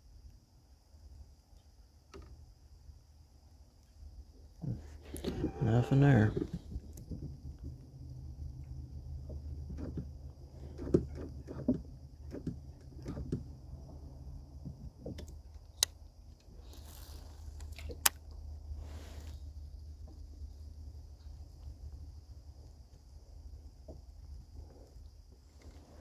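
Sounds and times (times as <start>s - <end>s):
low wind rumble: 4.2s - 26.0s.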